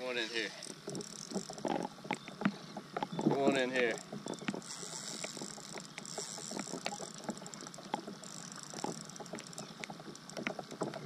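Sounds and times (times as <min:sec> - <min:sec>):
fishing reel whirring: 0:00.0 - 0:02.3, 0:03.6 - 0:11.0.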